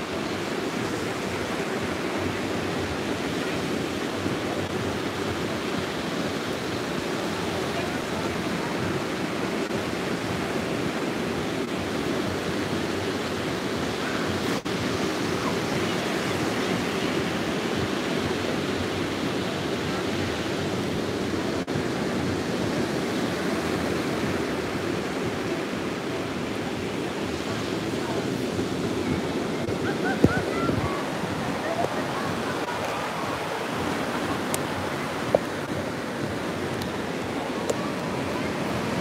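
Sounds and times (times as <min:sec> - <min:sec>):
surf breaking on beach: 0:00.0 - 0:39.0.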